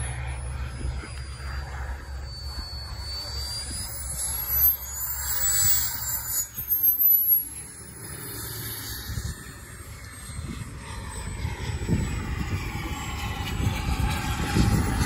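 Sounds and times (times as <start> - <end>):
model jet turbine whining: 0.0 - 15.0.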